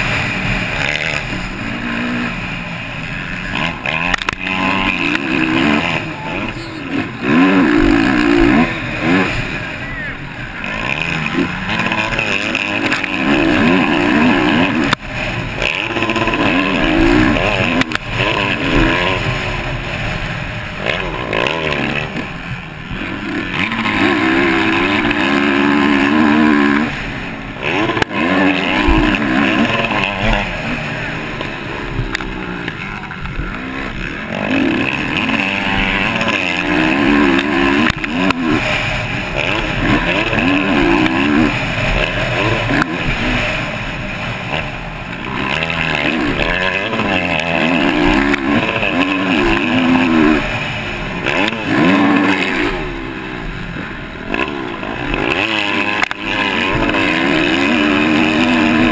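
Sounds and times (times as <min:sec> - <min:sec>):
motocross bike engine revving: 0:00.0 - 0:58.9.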